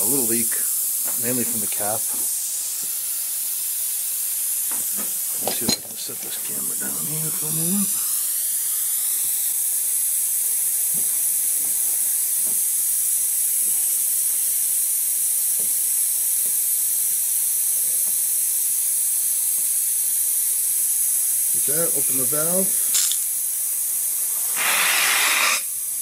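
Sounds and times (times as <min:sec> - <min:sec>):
compressed air hissing: 0:00.0 - 0:26.0.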